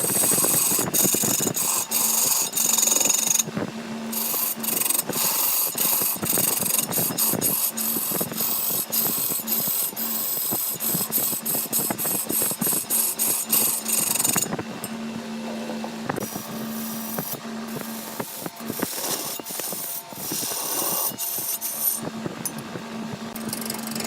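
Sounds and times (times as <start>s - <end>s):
tool scraping wood: 0.0s - 3.5s, 4.1s - 14.6s, 15.5s - 22.1s
woodworking machine humming: 0.0s - 24.0s.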